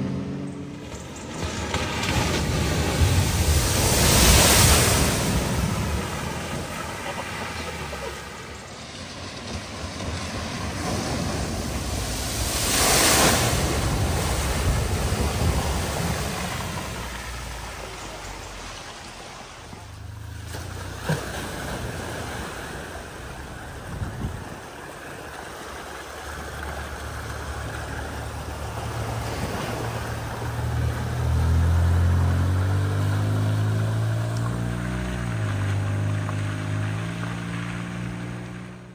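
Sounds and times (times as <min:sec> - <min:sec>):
car engine humming: 0:00.0 - 0:38.9
rushing water: 0:00.0 - 0:38.9
tyres splashing through water: 0:00.0 - 0:38.9.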